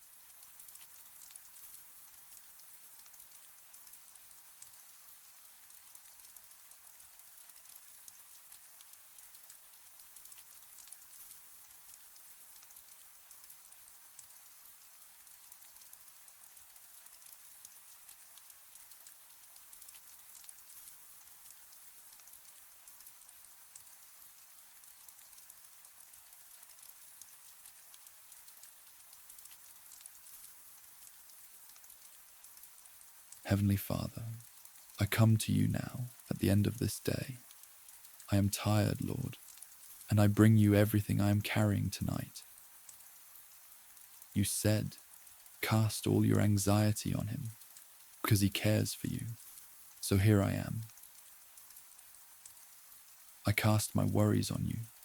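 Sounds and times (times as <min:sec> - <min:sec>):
faint rain: 0:00.0 - 0:55.0
raindrops ticking on window: 0:00.0 - 0:55.0.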